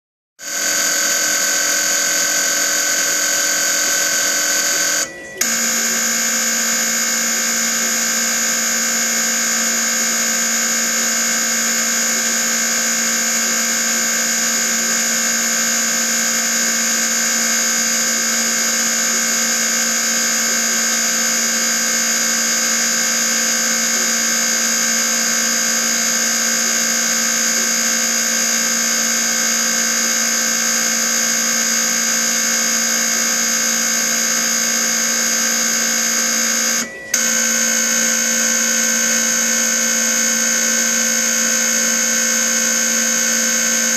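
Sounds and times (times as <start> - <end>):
injectors high-pitched electric buzz: 0.4 - 43.9.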